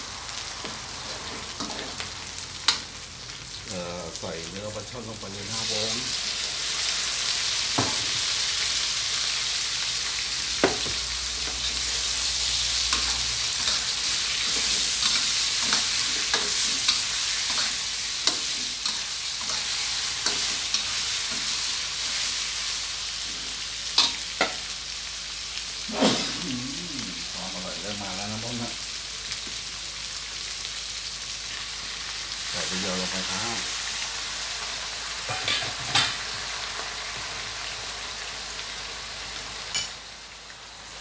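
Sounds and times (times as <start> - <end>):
fish sizzling in oil: 0.0 - 41.0.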